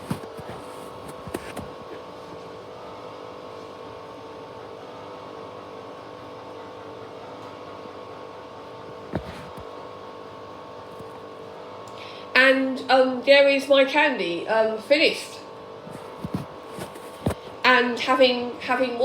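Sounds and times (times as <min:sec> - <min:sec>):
washing machine humming: 0:00.0 - 0:12.2, 0:14.0 - 0:19.0.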